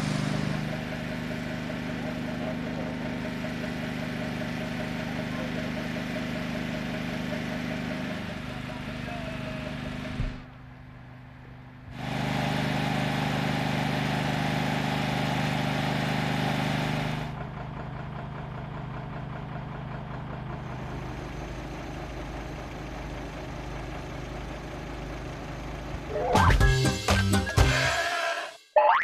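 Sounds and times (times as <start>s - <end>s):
vehicle engine idling: 0.0s - 26.8s.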